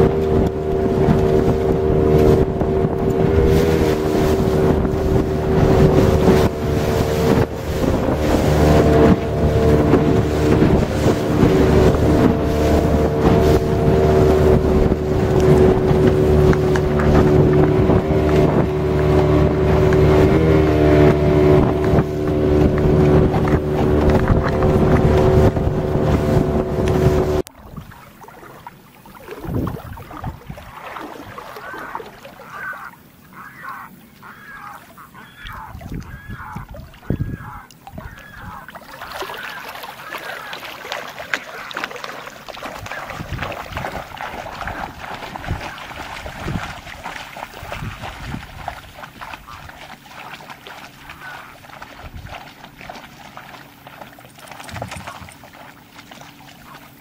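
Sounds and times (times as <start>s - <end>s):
dogs splashing through water: 0.0s - 57.0s
water trickling: 0.0s - 57.0s.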